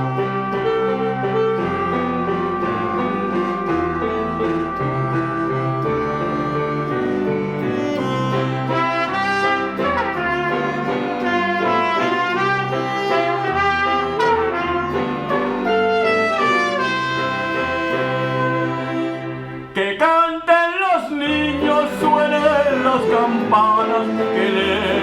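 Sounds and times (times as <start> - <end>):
brass melody: 0.0 - 25.0.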